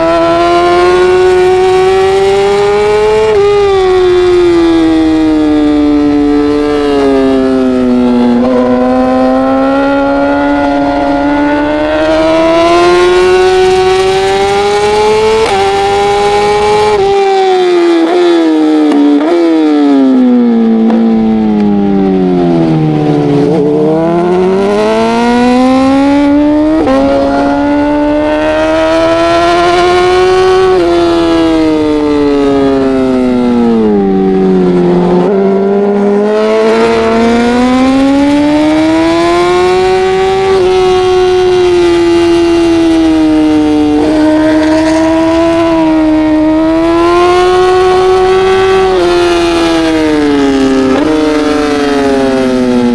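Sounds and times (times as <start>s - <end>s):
racing motorcycle engine revving: 0.0s - 52.9s.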